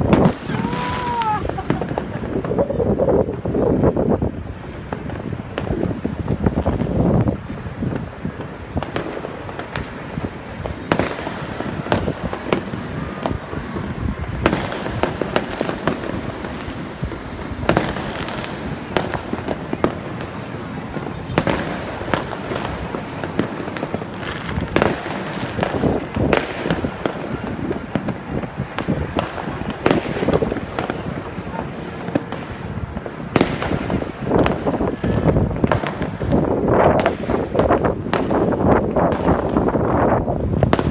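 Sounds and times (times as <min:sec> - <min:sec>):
rumble of distant fireworks: 0:00.0 - 0:40.9
sharp firework bangs: 0:00.0 - 0:40.9.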